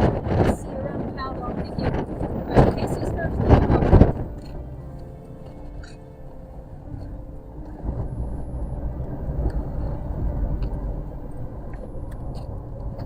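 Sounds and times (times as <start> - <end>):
car driving low rumble: 0.0 - 13.0
road and wind noise in cabin: 0.0 - 13.0.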